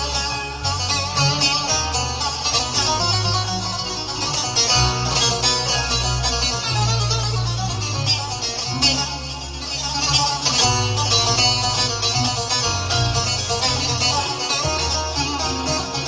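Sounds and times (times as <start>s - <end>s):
held bass line: 0.0s - 16.0s
plucked string lead melody: 0.0s - 16.0s.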